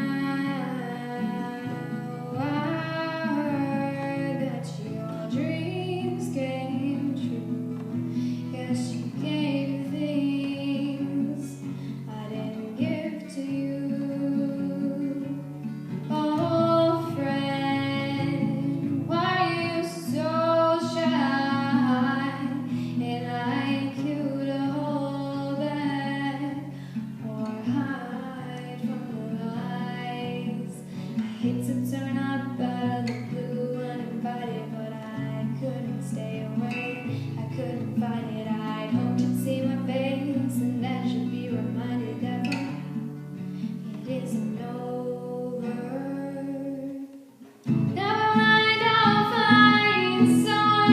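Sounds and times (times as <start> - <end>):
acoustic guitar: 0.0 - 50.9
woman singing a ballad: 0.0 - 50.9.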